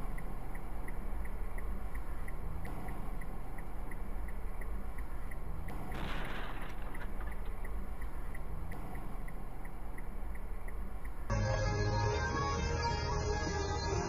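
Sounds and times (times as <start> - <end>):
faint regular ticking: 0.0 - 11.3
moving car engine and road rumble: 0.0 - 14.0.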